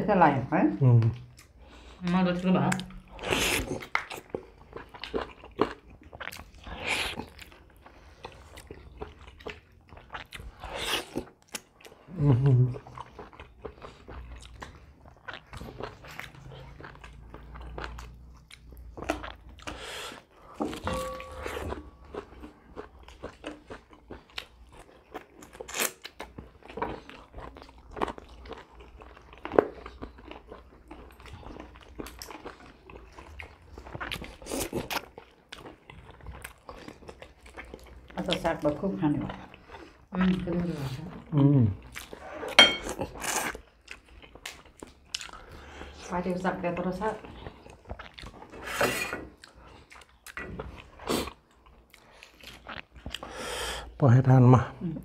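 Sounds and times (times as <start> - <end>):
chewing and crunching: 0.7 - 54.8.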